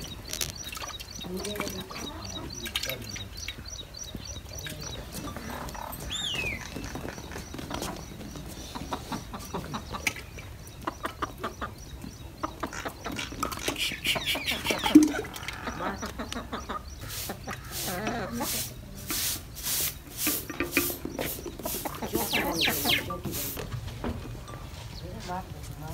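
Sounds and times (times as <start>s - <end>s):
hens clucking: 0.0s - 25.9s.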